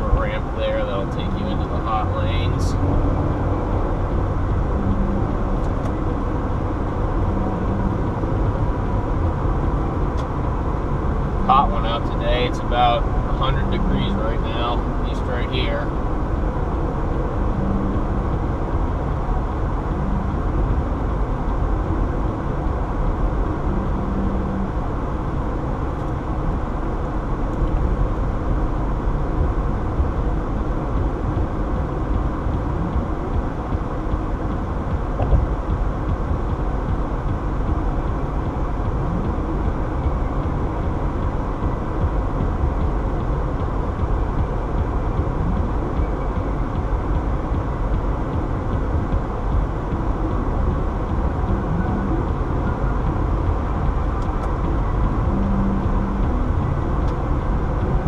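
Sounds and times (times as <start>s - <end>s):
wind noise on car: 0.0s - 58.0s.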